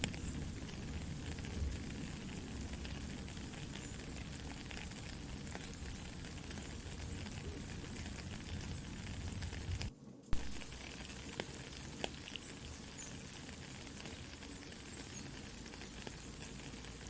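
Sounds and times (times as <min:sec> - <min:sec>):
campfire crackling and popping: 0:00.0 - 0:17.0
soft rain hissing: 0:00.0 - 0:17.0.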